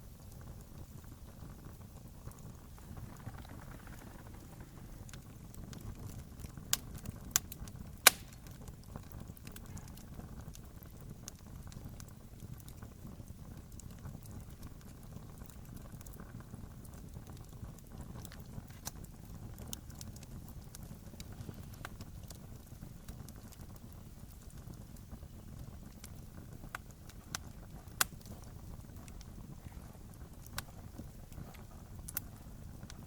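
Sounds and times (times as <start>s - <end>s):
campfire rumbling and crackling: 0.0s - 33.0s
sharp fire pops: 0.1s - 33.0s.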